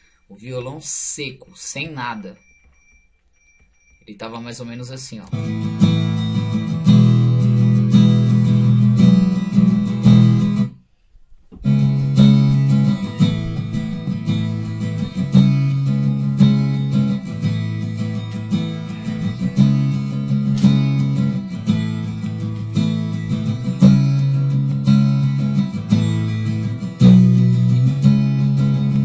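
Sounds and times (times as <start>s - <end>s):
acoustic guitar strumming chords: 4.6s - 10.9s, 11.5s - 29.0s.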